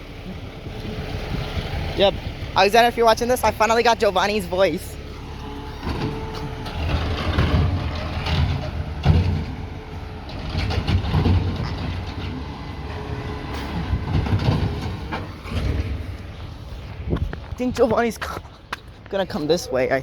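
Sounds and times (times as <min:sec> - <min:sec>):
garbage truck engine rumbling: 0:00.0 - 0:20.0.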